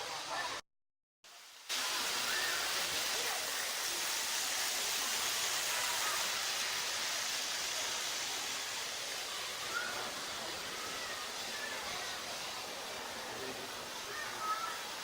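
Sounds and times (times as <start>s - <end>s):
model trains running: 1.3s - 15.0s.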